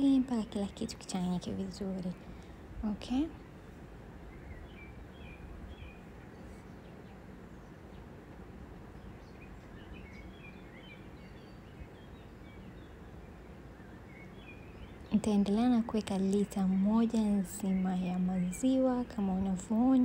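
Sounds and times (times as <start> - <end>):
small birds chirping: 0.0 - 20.0
steady background hiss: 0.0 - 20.0.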